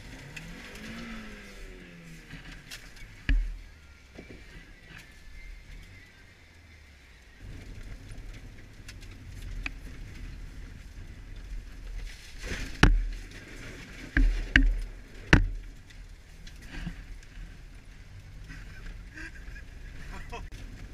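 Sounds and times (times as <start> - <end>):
car engine and tyre rumble: 0.0 - 20.9.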